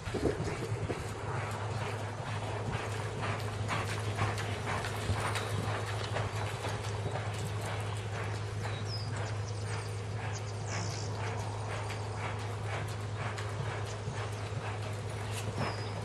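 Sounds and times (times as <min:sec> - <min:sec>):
horse hooves clip-clopping: 0:00.0 - 0:16.0
steady low hum: 0:00.0 - 0:16.0.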